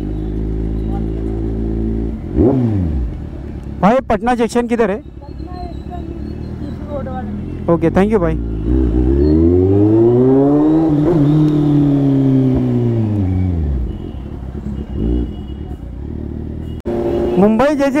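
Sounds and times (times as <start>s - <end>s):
motorcycle engine revving: 0.0s - 3.8s, 4.8s - 18.0s.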